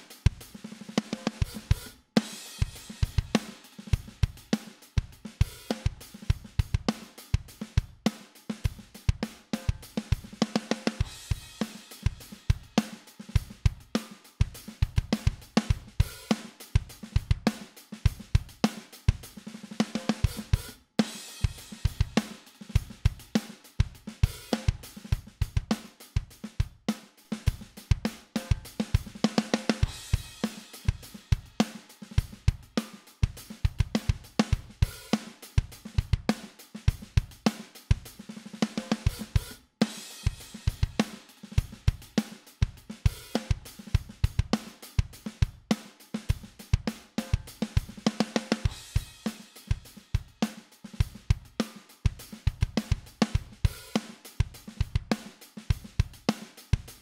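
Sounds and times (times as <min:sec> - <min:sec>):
drum kit groove: 0:00.0 - 0:57.0.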